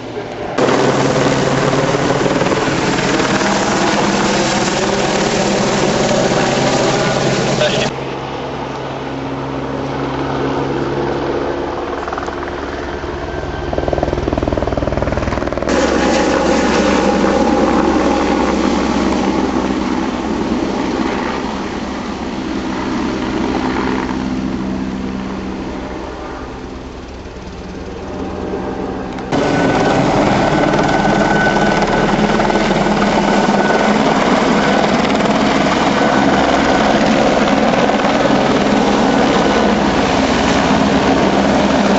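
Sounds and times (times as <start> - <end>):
helicopter rotor and engine: 0.0 - 41.9.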